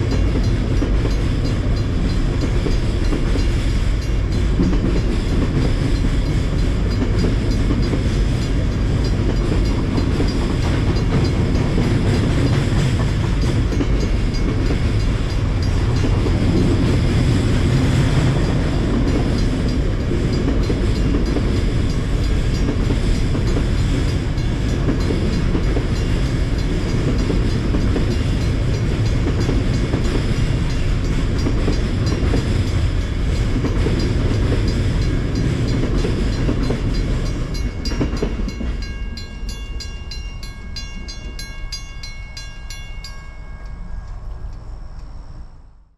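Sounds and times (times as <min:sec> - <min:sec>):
train wheels on rails: 0:00.0 - 0:45.9.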